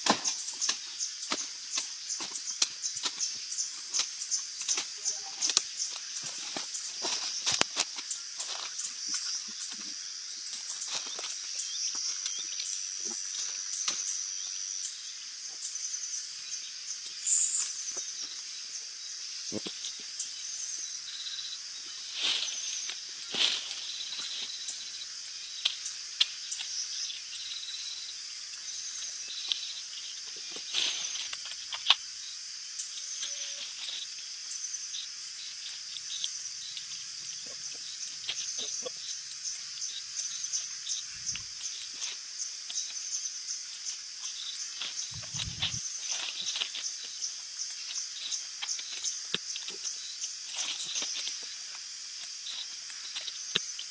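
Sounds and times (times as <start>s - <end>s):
shrill pulsing insect chorus: 0.0s - 53.9s.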